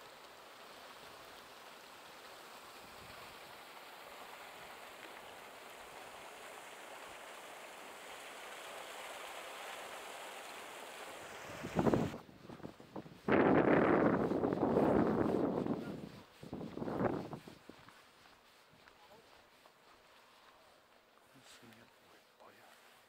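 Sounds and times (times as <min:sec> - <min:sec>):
sea water washing on concrete: 0:00.0 - 0:21.8.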